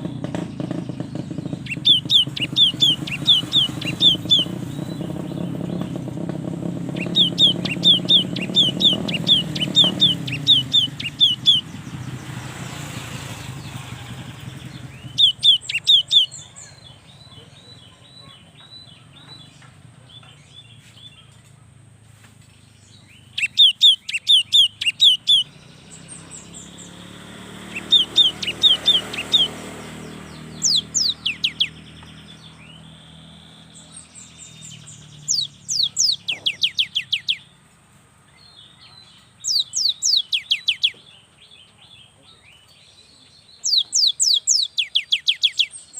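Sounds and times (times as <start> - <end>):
bird singing rapid high notes: 0.0 - 19.6, 22.8 - 37.7, 38.4 - 41.5, 42.4 - 45.9.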